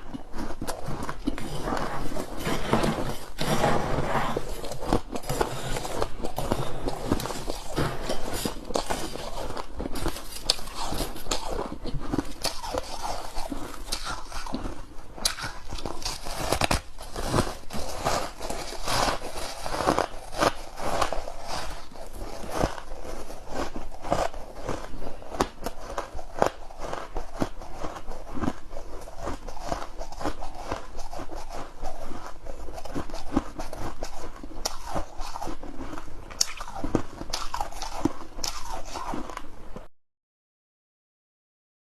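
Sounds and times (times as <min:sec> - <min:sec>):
ice being chewed crunching: 0:00.0 - 0:39.5.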